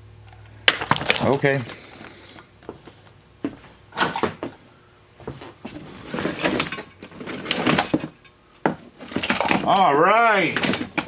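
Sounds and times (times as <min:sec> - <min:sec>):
parts knocking and scraping: 0:00.3 - 0:04.6, 0:05.2 - 0:11.0.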